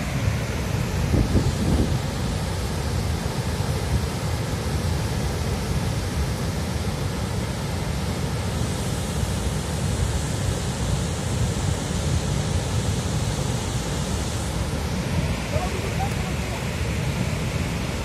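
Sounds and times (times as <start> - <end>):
torrent of rushing water: 0.0 - 18.0.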